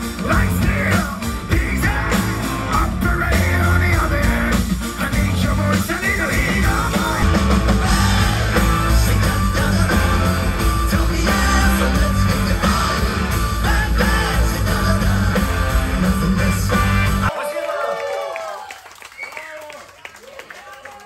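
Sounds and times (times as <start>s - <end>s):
man singing lead vocal: 0.0s - 17.3s
rock band playing: 0.0s - 17.4s.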